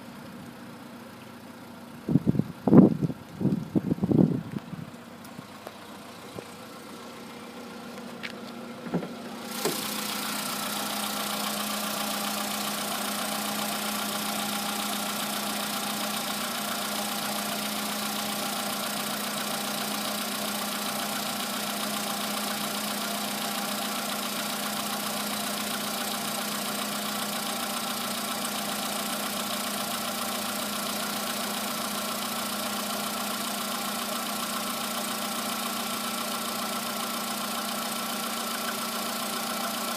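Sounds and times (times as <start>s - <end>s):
car engine starting: 0.0s - 39.9s
car engine idling with knock: 0.1s - 39.9s.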